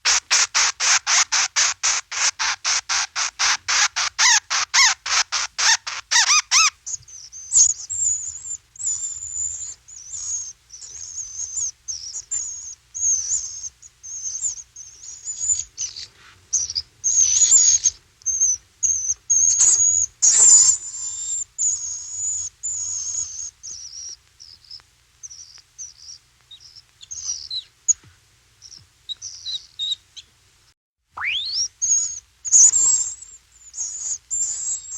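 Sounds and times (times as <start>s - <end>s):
bat chirps and squeaks: 0.0s - 27.7s, 28.6s - 30.3s, 31.2s - 34.9s.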